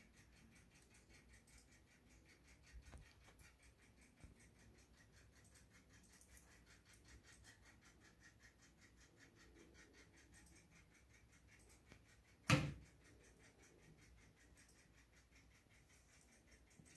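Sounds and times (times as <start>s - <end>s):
rapid even pulsing: 0.0s - 16.9s.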